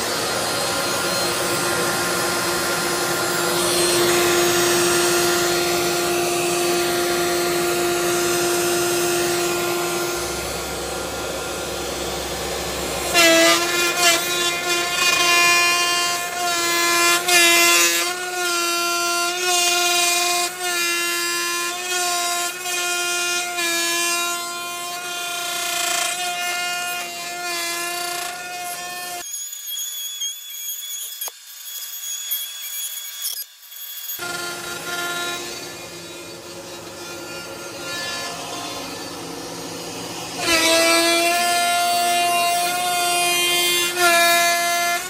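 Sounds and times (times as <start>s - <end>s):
machine cutter whining: 0.0s - 45.0s.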